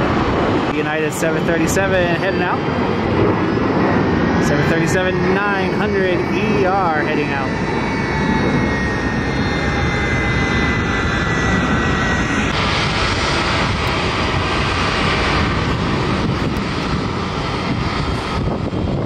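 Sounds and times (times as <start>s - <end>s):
jet engine rush with whine: 0.0s - 19.0s.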